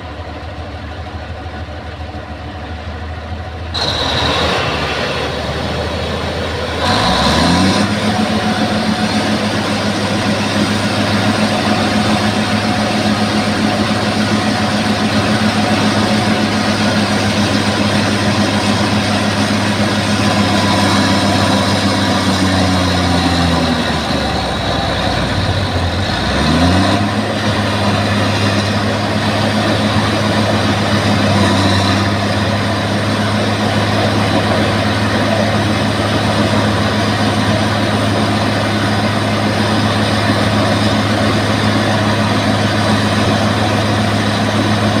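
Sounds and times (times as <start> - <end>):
bulldozer diesel engine running: 0.0 - 45.0.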